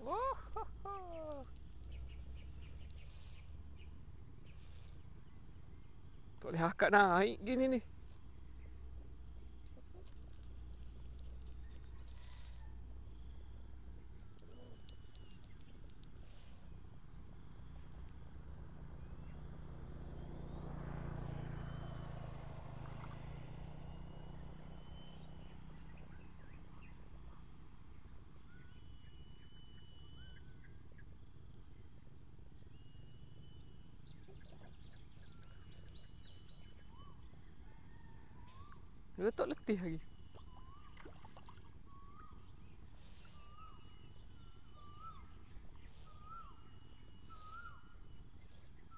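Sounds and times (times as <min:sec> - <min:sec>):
low background hum: 0:00.0 - 0:48.9.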